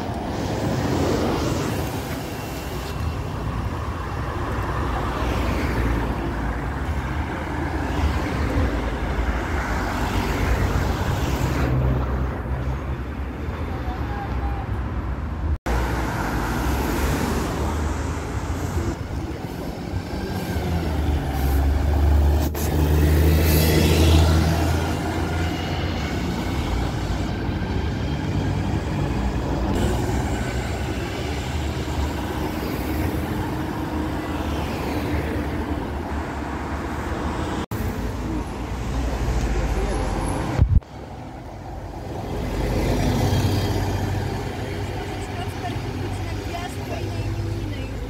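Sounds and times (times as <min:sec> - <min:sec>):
bus engine drone: 0:00.0 - 0:48.0
road traffic noise: 0:00.0 - 0:48.0.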